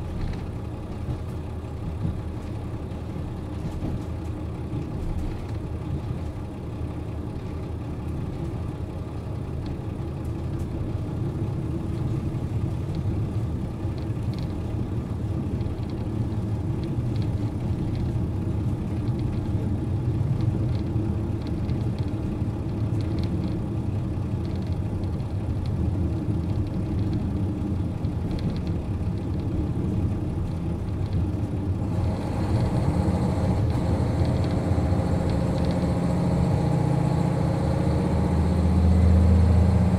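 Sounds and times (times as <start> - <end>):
diesel railcar engine droning: 0.0 - 39.9.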